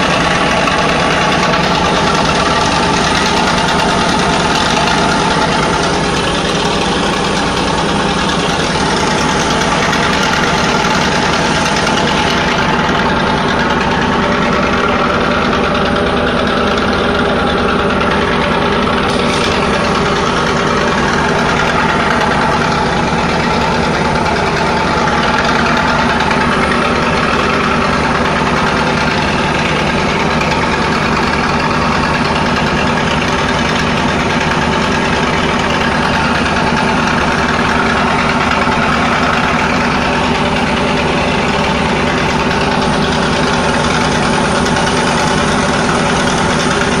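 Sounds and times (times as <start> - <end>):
boat diesel engine drone: 0.0 - 47.0.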